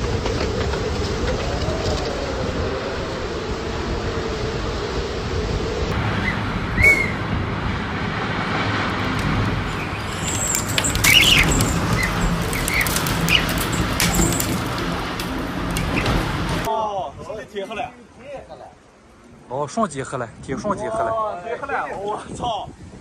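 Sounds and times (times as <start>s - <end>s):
strong wind rushing: 0.0s - 17.3s, 20.3s - 23.0s.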